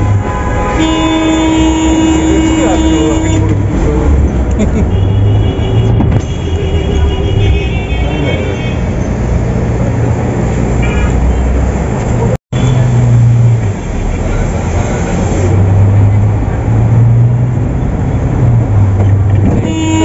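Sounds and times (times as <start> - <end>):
bus engine hum: 0.0 - 20.0
road and traffic noise: 0.0 - 20.0.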